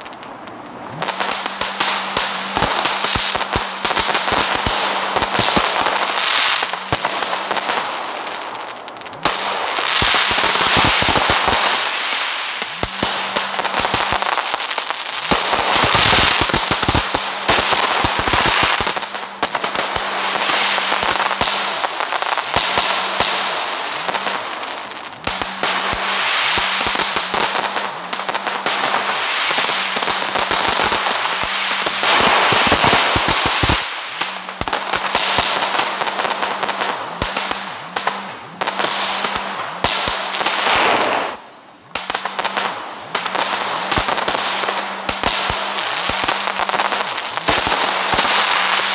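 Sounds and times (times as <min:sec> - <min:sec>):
continuous hiss: 0:00.0 - 0:48.9
fireworks crackling and popping: 0:00.0 - 0:48.9.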